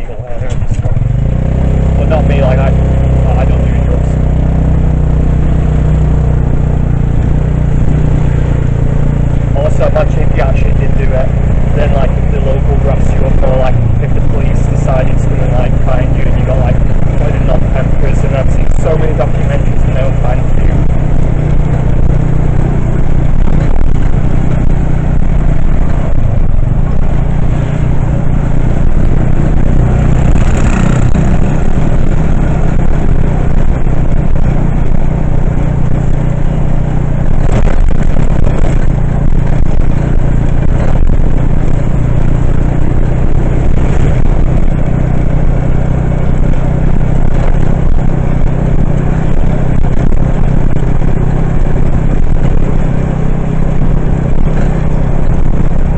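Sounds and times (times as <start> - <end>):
vehicle engine and road drone: 0.0 - 55.9.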